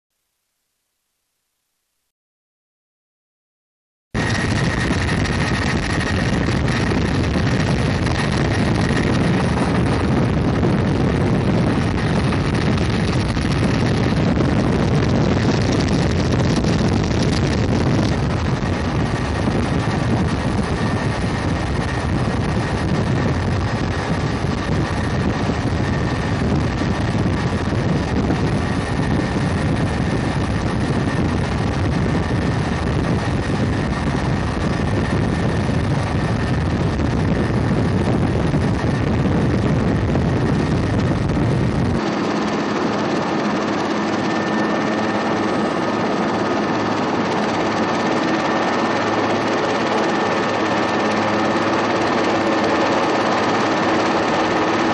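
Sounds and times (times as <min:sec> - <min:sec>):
helicopter engine and rotor noise: 0:04.2 - 0:54.9
rushing wind: 0:04.2 - 0:54.9.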